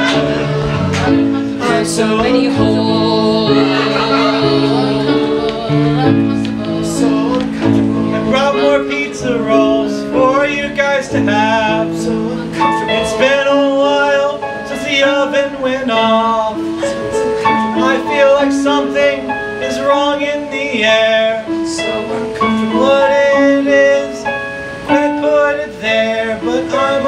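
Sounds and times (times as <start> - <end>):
person singing: 0.0 - 24.3
keyboard playing sustained chords: 0.0 - 27.0.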